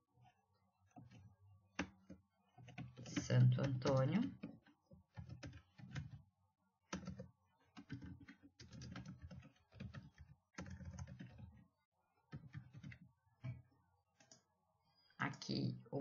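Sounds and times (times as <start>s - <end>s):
faint keyboard typing: 0.2s - 6.3s, 6.9s - 11.7s, 12.3s - 14.5s.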